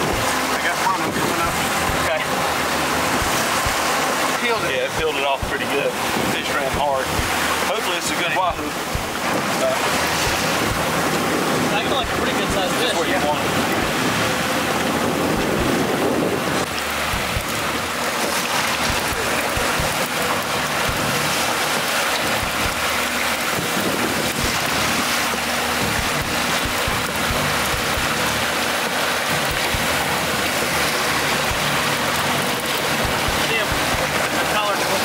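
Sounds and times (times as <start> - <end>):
wind on microphone: 0.0 - 4.4, 8.6 - 34.3
sea water washing: 0.0 - 35.0.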